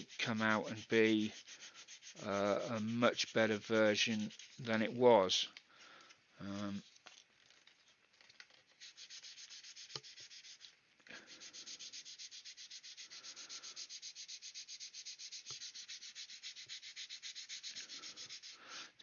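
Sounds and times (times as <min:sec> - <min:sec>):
sanding plastic: 0:00.0 - 0:05.5, 0:08.5 - 0:19.0.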